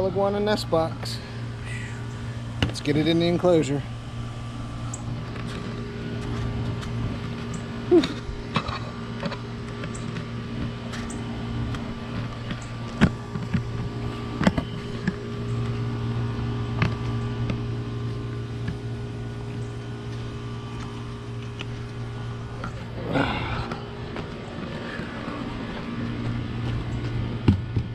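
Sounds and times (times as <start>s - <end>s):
machine hum: 0.0s - 27.9s.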